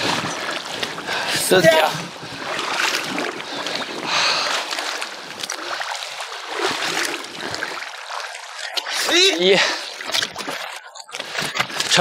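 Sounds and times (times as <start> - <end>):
wading through shallow water: 0.0 - 12.0.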